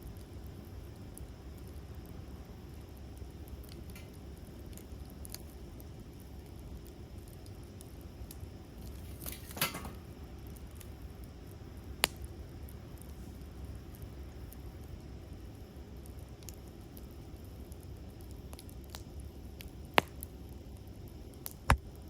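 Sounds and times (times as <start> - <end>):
campfire crackling: 0.0 - 22.0
fire popping: 0.0 - 22.0.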